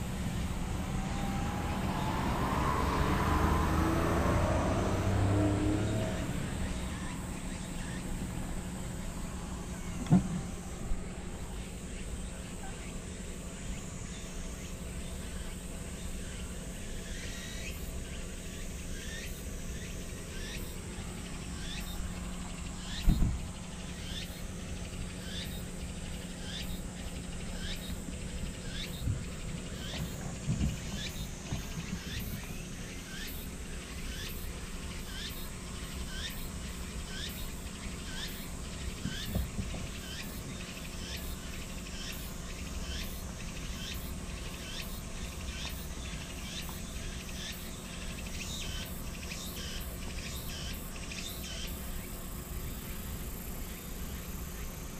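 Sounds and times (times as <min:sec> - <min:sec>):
insect chirping: 0:00.0 - 0:54.9
outdoor background noise: 0:00.0 - 0:54.9.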